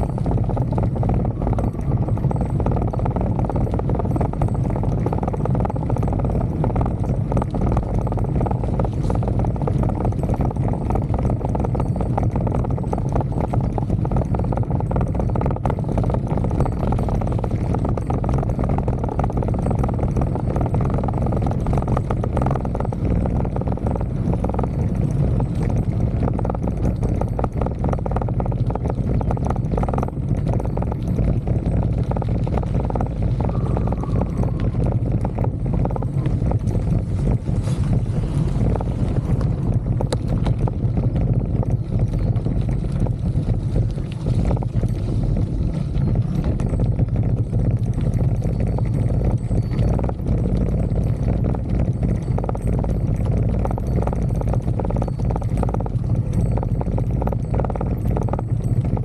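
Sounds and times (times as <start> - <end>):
bicycle rattling and clicking: 0.0 - 59.0
wind buffeting microphone: 0.0 - 59.0.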